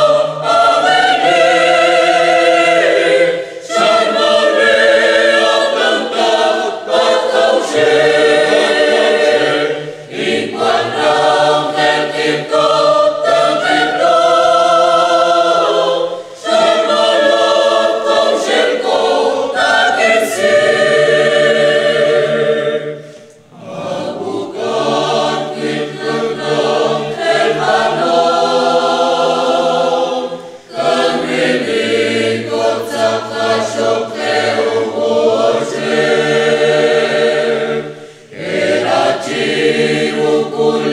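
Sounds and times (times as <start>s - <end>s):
mixed choir singing a hymn: 0.0s - 40.9s.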